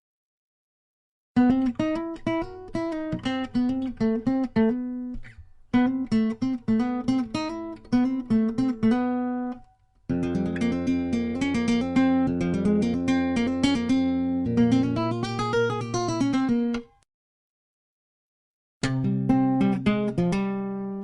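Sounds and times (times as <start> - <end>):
acoustic guitar melody: 1.4 - 17.0, 18.8 - 21.0.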